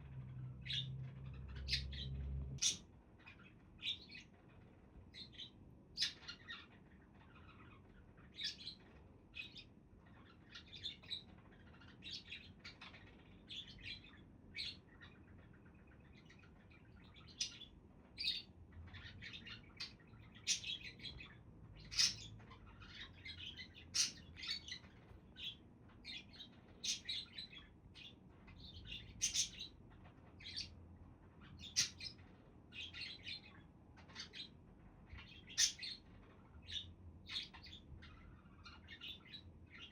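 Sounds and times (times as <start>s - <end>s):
budgerigars chirping: 0.1s - 4.3s, 5.1s - 29.8s, 30.4s - 30.8s, 31.4s - 34.5s, 35.1s - 39.9s.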